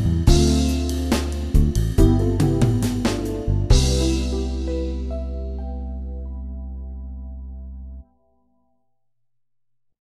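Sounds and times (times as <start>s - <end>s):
music of ringing low tones: 0.3s - 8.9s.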